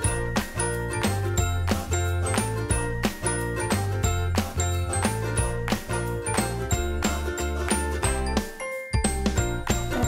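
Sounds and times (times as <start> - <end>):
jingly tune with bell notes: 0.0 - 10.0.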